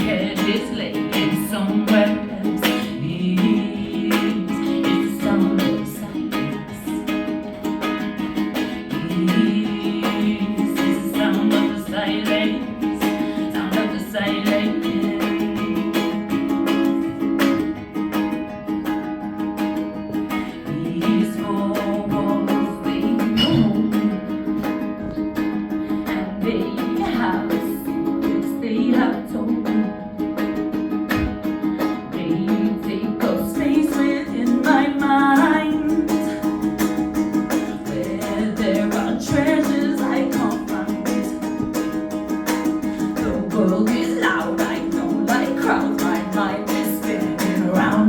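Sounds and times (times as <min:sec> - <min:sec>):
person singing: 0:00.0 - 0:17.6, 0:20.3 - 0:48.0
ukulele strumming: 0:00.0 - 0:48.0.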